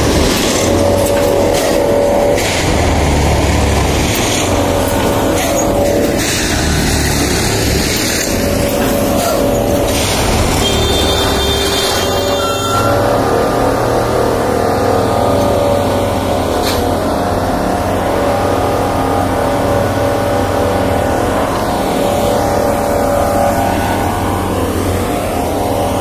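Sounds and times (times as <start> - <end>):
constant low hum: 0.0 - 26.0
diesel engine running: 0.0 - 26.0.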